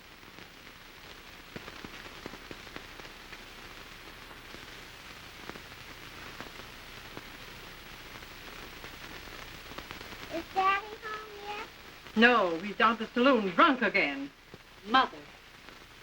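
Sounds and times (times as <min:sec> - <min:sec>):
film soundtrack hiss and crackle: 0:00.0 - 0:16.0.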